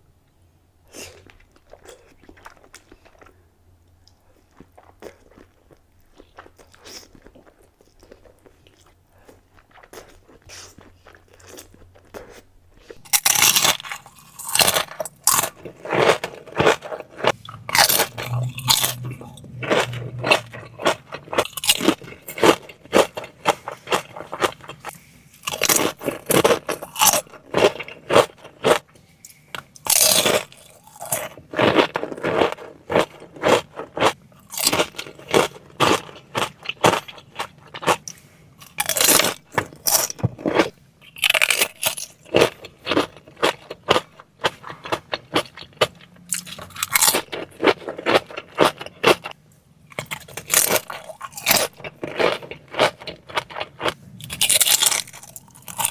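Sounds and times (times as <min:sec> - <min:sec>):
crunching and wet chewing: 0:01.0 - 0:03.4, 0:04.0 - 0:28.9, 0:29.6 - 0:55.9.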